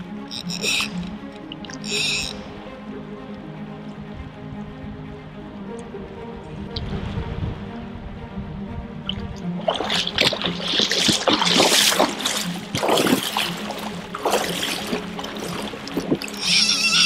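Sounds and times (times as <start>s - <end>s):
wading through river water: 0.0s - 17.0s.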